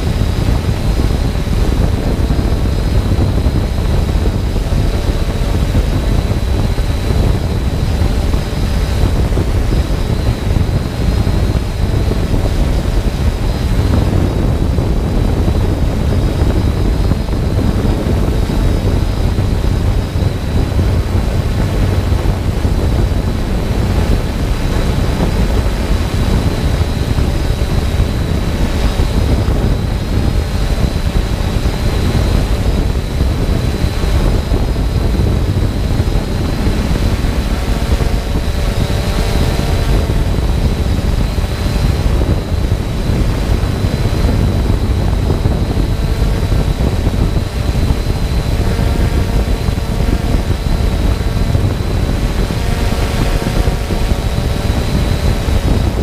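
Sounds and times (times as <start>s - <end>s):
drone propellers whirring: 0.0s - 56.0s
faint high whine: 0.0s - 56.0s
wind noise on microphone: 0.0s - 56.0s.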